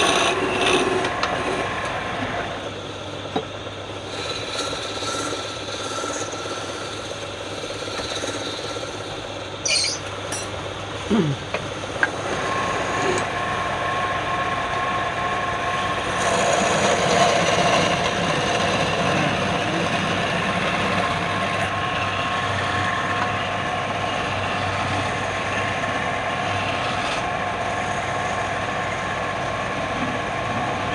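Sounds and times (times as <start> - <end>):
wood lathe motor whine: 0.0 - 30.9.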